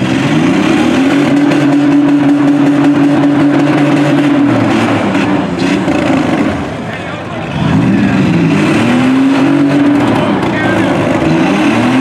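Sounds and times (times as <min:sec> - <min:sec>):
minivan engine revving: 0:00.0 - 0:12.0.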